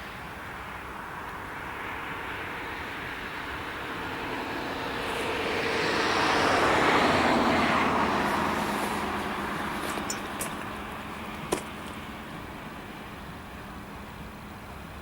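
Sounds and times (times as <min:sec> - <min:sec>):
vehicle passing by: 0:00.8 - 0:12.9.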